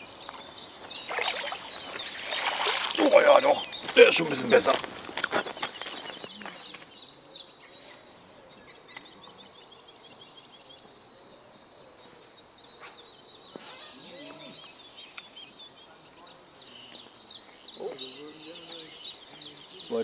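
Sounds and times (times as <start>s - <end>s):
faint outdoor background noise: 0.0s - 20.0s
songbirds chirping and trilling: 0.0s - 20.0s.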